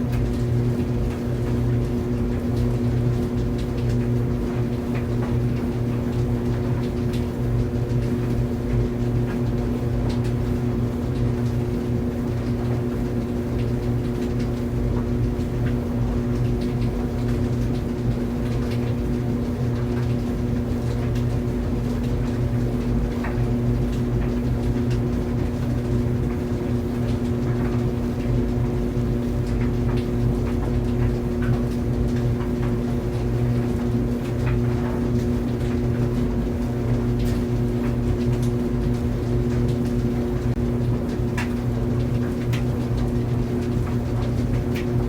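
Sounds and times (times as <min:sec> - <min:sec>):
clothes dryer humming: 0:00.0 - 0:45.0.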